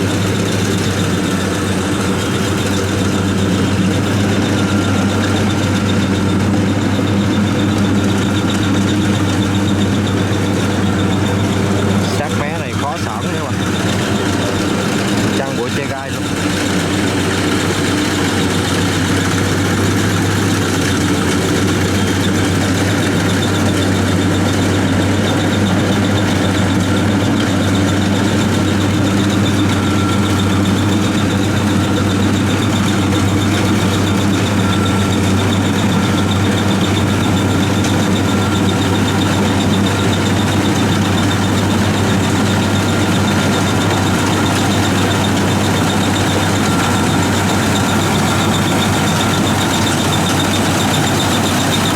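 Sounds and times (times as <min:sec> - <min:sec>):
combine harvester engine drone: 0:00.0 - 0:51.9.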